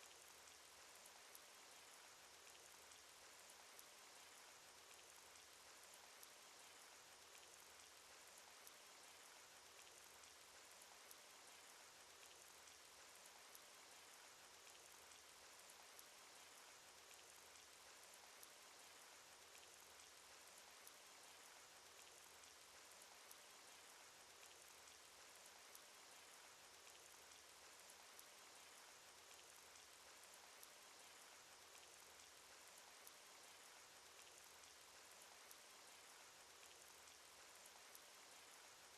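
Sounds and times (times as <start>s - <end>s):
faint hiss of falling rain: 0.0s - 38.9s
raindrop ticks: 0.0s - 38.9s.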